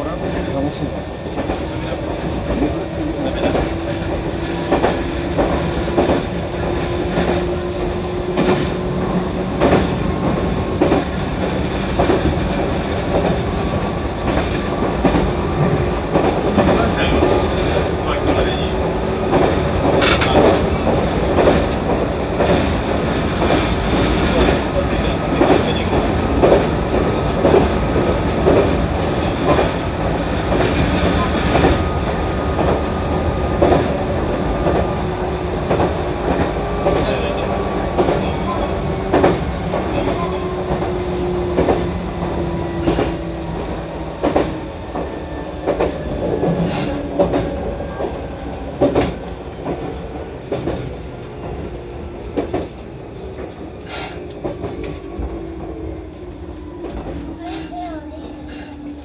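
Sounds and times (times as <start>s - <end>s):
train wheels rumbling on rail: 0.0s - 59.0s
clacks over rail joints: 0.2s - 29.8s, 33.6s - 55.8s.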